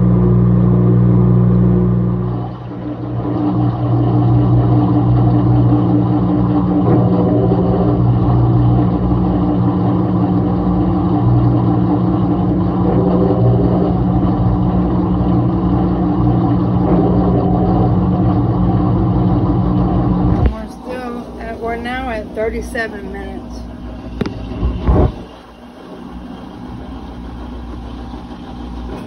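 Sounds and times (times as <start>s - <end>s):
washing machine spinning: 0.0s - 29.0s.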